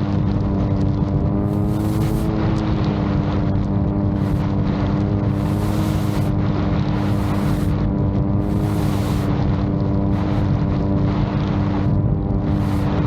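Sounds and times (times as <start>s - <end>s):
wind buffeting microphone: 0.0s - 13.0s
drone propellers whirring: 1.3s - 13.0s.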